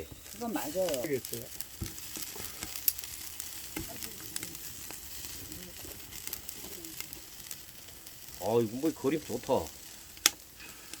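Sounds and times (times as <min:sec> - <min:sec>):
fire crackles and pops: 0:00.0 - 0:11.0
meat sizzling over wood fire: 0:00.0 - 0:11.0.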